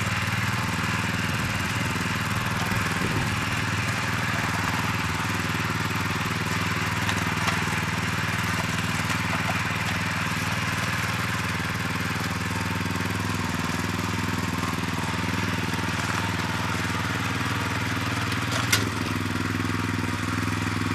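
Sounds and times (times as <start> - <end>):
garden tiller engine running: 0.0 - 20.9.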